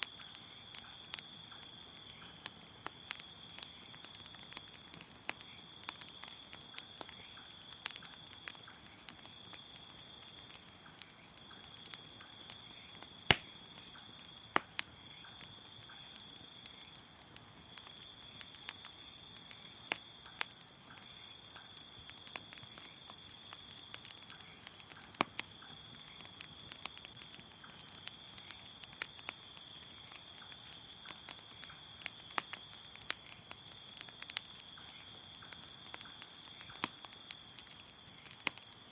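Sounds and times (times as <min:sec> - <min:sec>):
crickets chirping: 0:00.0 - 0:38.9
wood fire crackling: 0:00.0 - 0:38.9.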